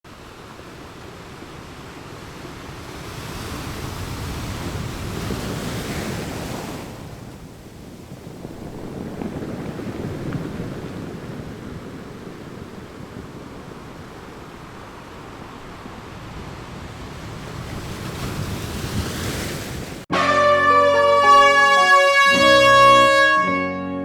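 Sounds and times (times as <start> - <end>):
sea waves washing onto shore: 0.1 - 20.1.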